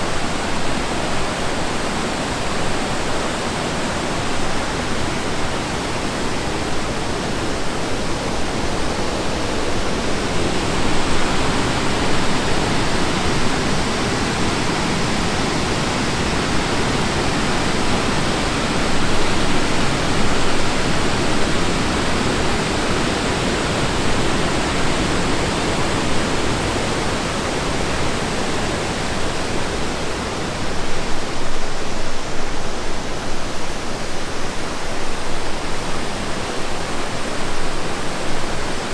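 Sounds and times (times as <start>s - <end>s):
whitewater rushing: 0.0s - 38.9s.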